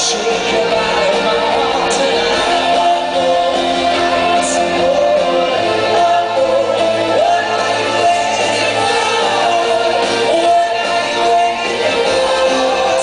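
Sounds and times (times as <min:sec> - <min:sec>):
live rock band playing: 0:00.0 - 0:13.0
singer's voice: 0:00.0 - 0:13.0.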